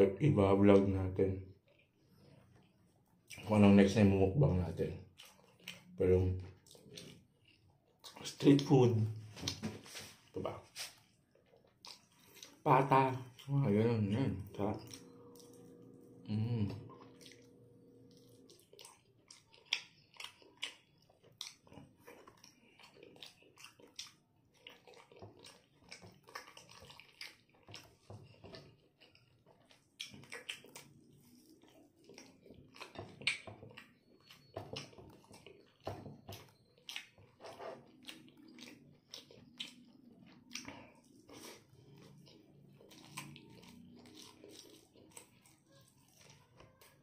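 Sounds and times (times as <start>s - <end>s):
person chewing food: 1.5s - 47.0s.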